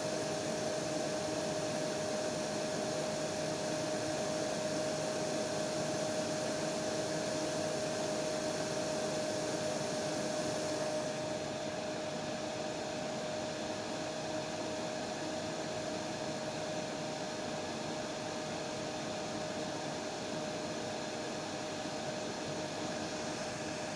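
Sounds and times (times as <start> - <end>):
hair dryer running: 0.0 - 23.9.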